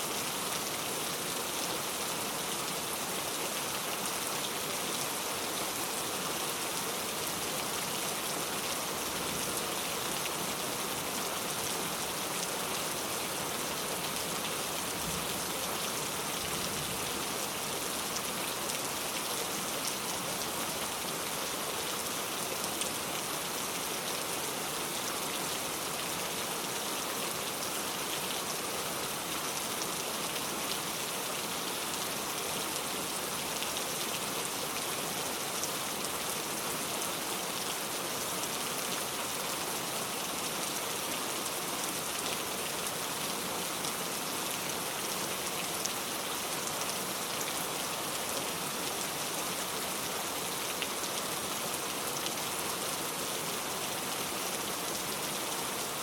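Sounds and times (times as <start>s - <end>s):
heavy rain on a road: 0.0s - 56.0s.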